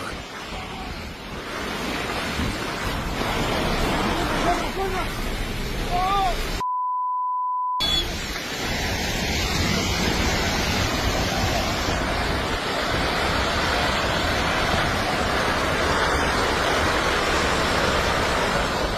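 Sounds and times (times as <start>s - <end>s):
rushing roar of landslide: 0.0s - 6.6s, 8.1s - 18.9s.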